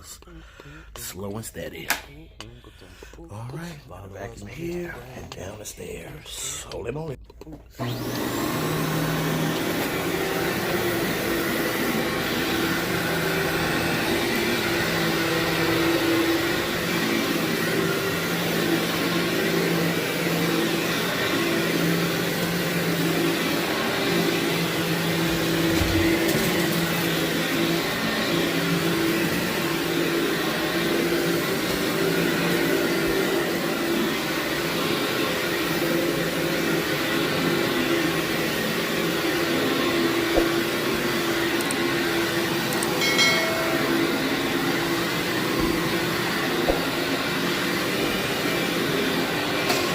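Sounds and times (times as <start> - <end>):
vacuum cleaner running: 7.7 - 49.9.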